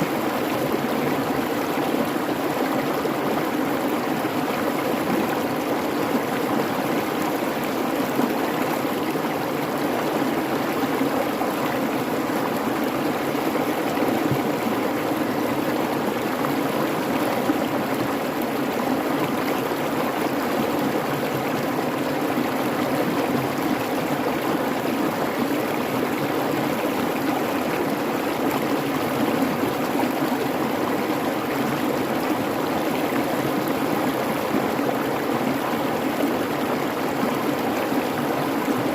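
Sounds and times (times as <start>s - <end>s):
creek water flowing: 0.0s - 38.9s.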